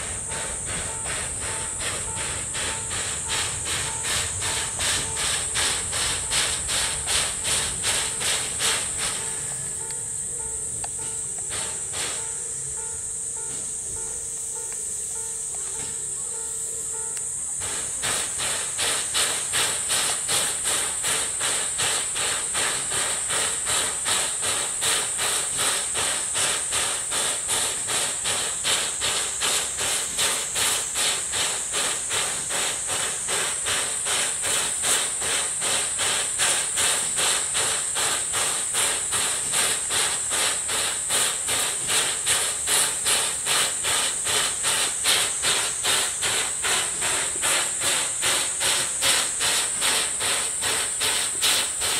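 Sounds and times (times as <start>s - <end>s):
steam locomotive hissing rhythmically: 0.0s - 51.9s.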